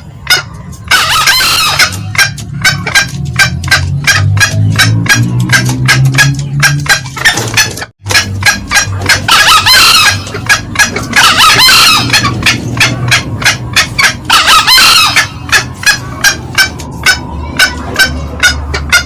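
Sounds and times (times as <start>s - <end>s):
junglefowl cackling calls: 0.0s - 19.0s.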